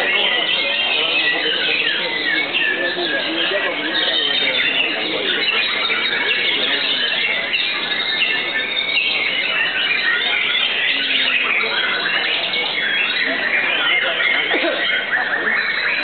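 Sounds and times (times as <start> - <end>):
songbirds singing chirps and whistles: 0.0 - 16.0.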